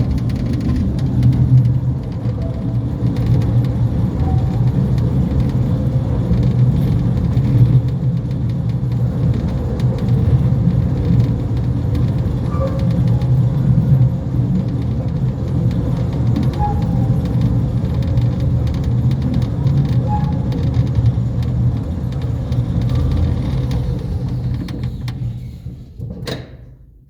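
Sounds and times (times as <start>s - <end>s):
train wheels rumbling on track: 0.0s - 26.9s.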